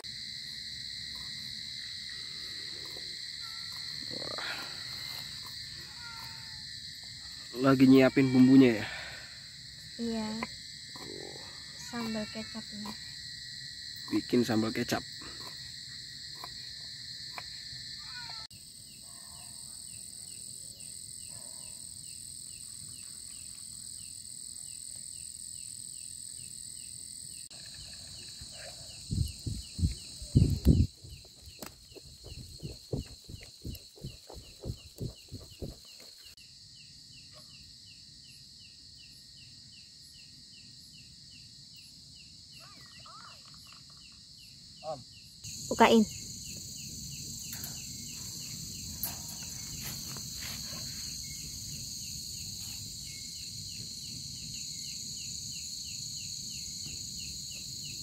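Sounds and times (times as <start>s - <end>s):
insects buzzing and chirping: 0.0s - 58.0s.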